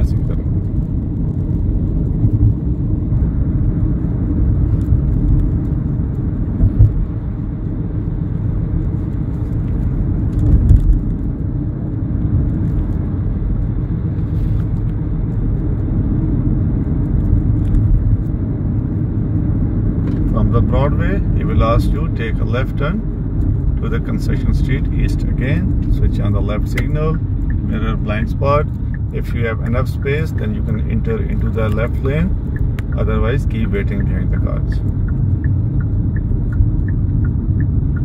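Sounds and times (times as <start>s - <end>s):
car road rumble from cabin: 0.0s - 38.0s.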